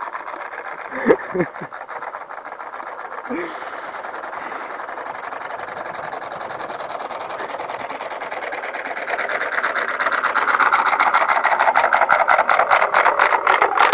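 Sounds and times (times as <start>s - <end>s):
motorized bicycle engine popping: 0.0s - 13.9s.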